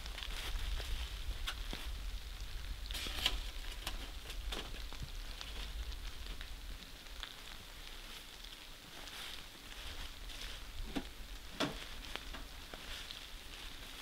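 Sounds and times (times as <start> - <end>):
rain falling: 0.0 - 14.0
sharp taps of raindrops: 0.0 - 14.0.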